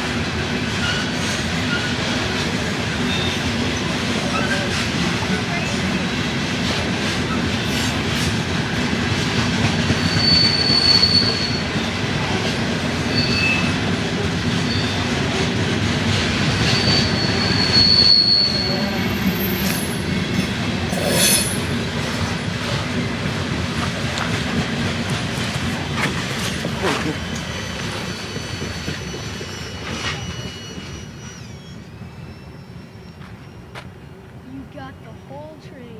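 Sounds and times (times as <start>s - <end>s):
train wheels rumbling on rails: 0.0s - 35.9s
steel wheels squealing: 0.8s - 2.2s, 2.8s - 8.9s, 9.8s - 23.1s, 25.7s - 35.5s.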